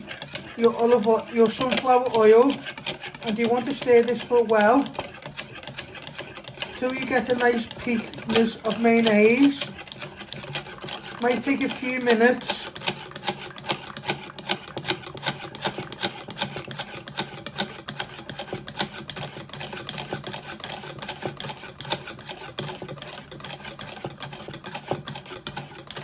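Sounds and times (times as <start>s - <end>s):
whisk clicking against plastic bowl: 0.0s - 26.0s.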